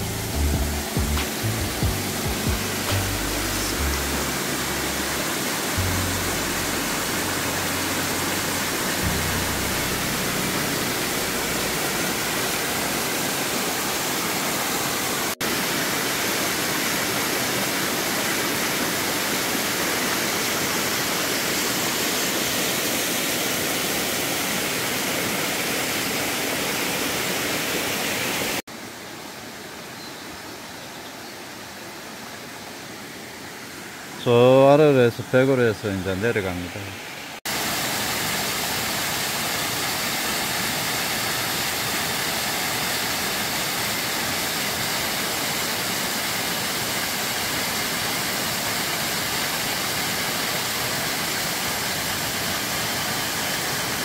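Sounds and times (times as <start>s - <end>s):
waterfall rushing: 0.0s - 28.6s, 33.0s - 54.0s
stream flowing over stones: 2.6s - 28.7s, 36.1s - 54.0s.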